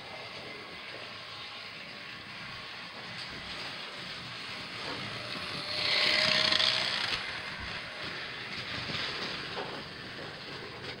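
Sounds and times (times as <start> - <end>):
model steam locomotive running: 0.0 - 11.0.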